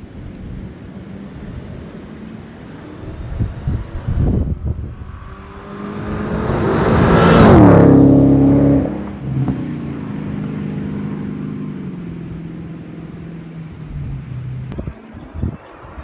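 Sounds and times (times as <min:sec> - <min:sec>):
car driving past: 0:01.0 - 0:14.8.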